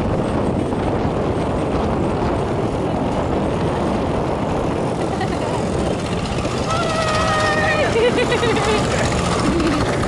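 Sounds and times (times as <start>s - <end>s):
motorbike engine and road noise: 0.0s - 10.0s.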